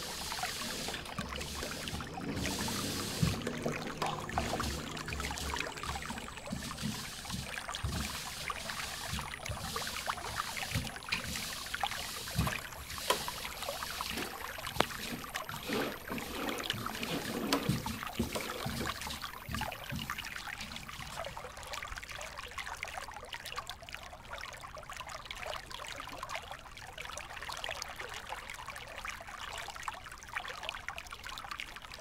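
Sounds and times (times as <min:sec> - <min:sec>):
aquarium water trickling and bubbling: 0:00.0 - 0:32.0.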